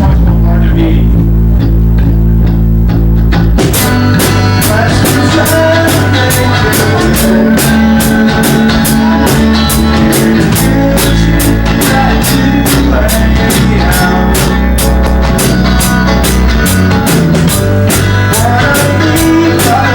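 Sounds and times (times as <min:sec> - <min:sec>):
drum kit fast beat: 0:00.0 - 0:19.9
loud live rock band: 0:02.1 - 0:19.9.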